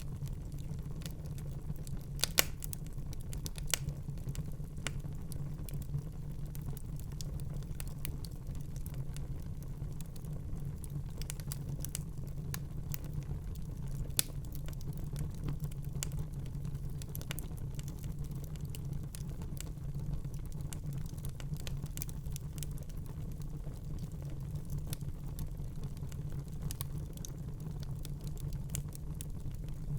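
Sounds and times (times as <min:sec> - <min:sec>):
fire crackles and pops: 0:00.0 - 0:29.9
wood fire rumbling: 0:00.0 - 0:29.9.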